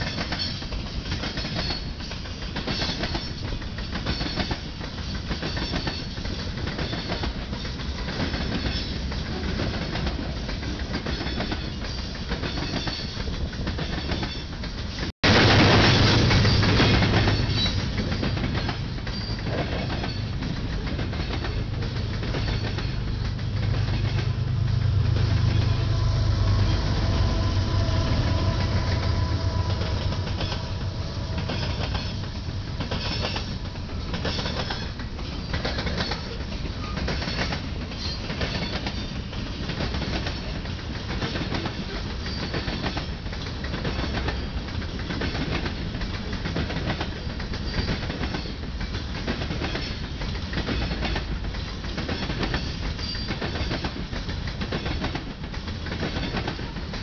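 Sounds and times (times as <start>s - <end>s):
diesel locomotive engines: 0.0s - 57.0s
train wheels clickety-clack: 0.0s - 57.0s.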